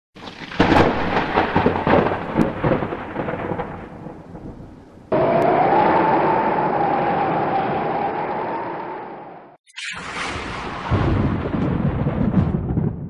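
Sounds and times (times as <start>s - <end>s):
thunder rolling and cracking: 0.2s - 9.2s, 10.0s - 13.0s.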